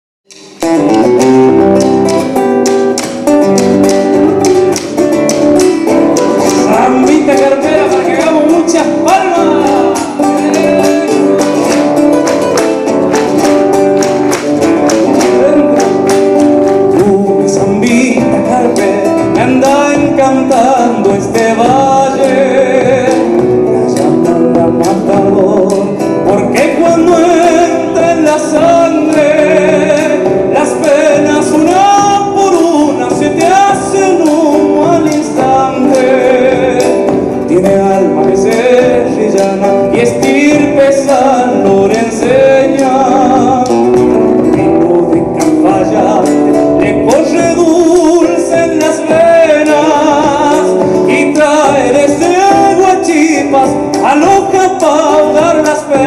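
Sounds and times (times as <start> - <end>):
bass guitar: 0.2 - 56.0
drum kit: 0.2 - 56.0
nylon-string guitar: 0.3 - 56.0.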